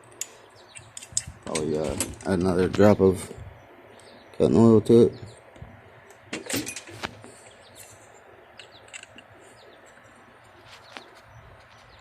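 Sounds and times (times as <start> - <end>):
small birds chirping: 0.1 - 6.3, 7.2 - 12.0.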